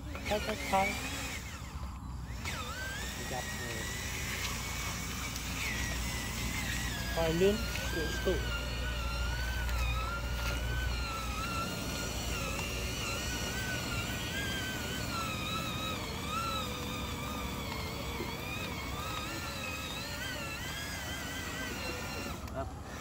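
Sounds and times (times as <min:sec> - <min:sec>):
toy truck electric motor whining: 0:00.0 - 0:23.0.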